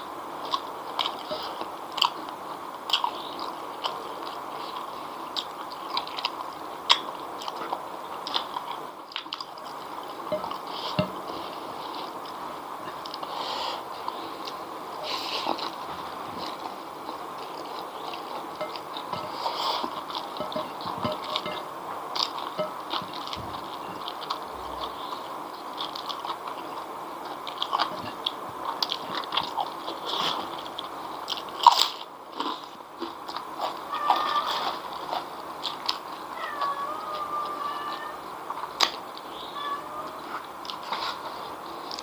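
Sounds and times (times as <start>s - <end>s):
wet chewing: 0.0s - 39.3s.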